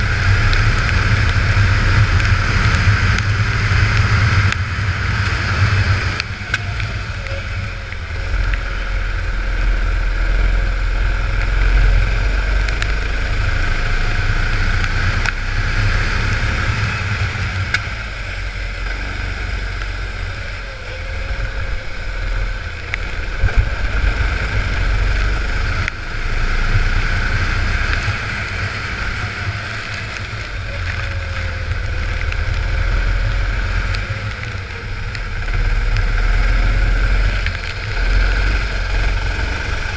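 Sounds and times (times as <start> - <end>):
go-kart engine: 0.0 - 39.9
tyres hissing on wet track: 0.0 - 39.9.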